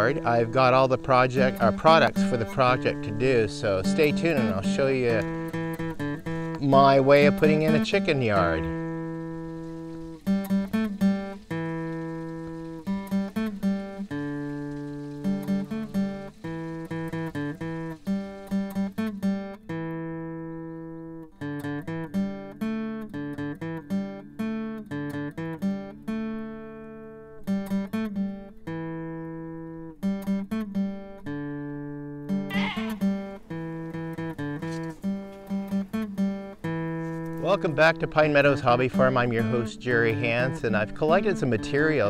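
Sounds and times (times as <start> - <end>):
acoustic guitar picking: 0.0 - 42.0.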